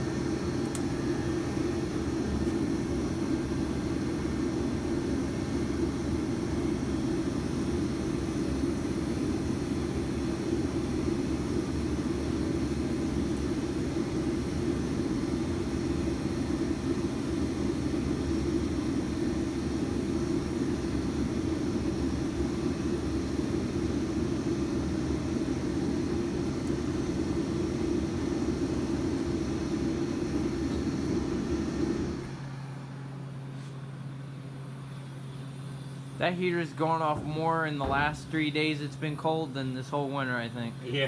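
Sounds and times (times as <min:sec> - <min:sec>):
space heater running: 0:00.0 - 0:41.0.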